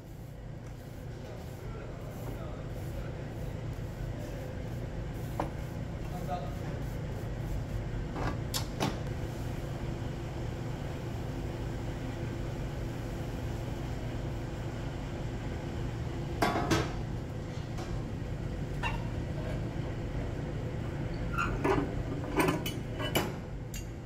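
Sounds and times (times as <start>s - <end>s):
welding shop hum: 0.0s - 24.0s.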